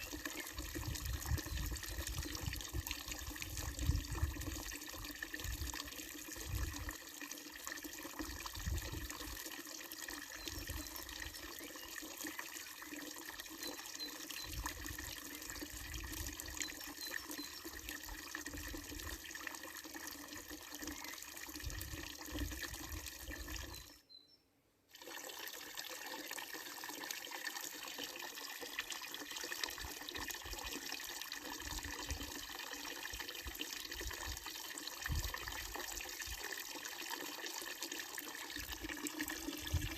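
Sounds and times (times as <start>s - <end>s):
fountain water splashing into basin: 0.0s - 23.9s, 24.9s - 39.9s.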